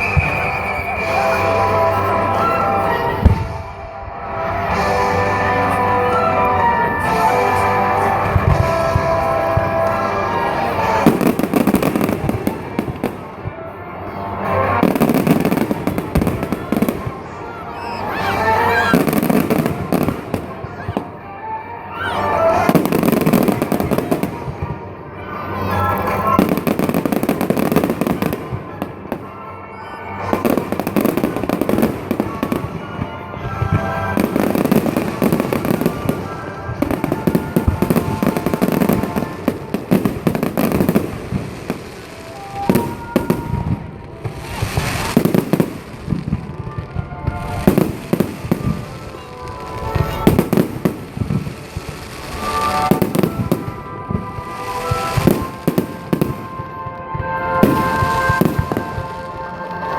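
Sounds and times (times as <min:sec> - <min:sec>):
fireworks bangs and crackles: 0:00.0 - 0:59.9
music playing: 0:00.0 - 0:59.9.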